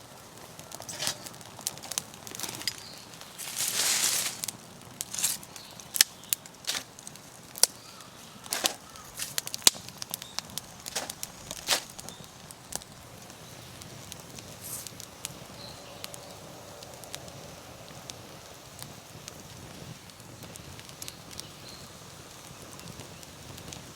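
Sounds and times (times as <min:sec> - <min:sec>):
campfire crackling: 0:00.0 - 0:23.9
faint steady hiss: 0:00.0 - 0:23.9
sharp fire pops: 0:00.0 - 0:23.9.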